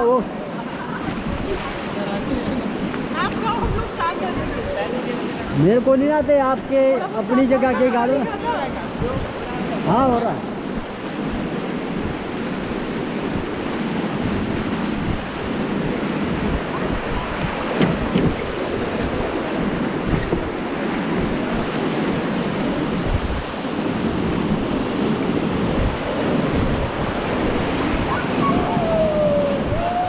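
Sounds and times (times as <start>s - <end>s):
rushing whitewater: 0.0s - 30.0s
wind buffeting microphone: 0.0s - 30.0s.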